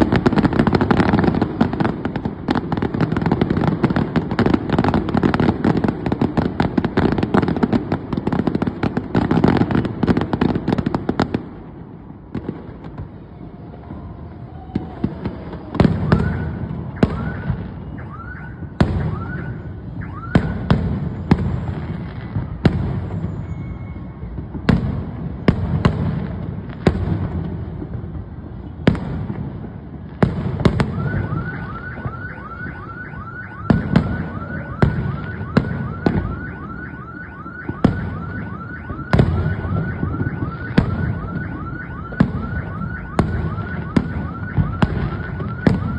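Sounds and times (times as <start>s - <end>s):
fireworks crackling and banging: 0.0s - 45.9s.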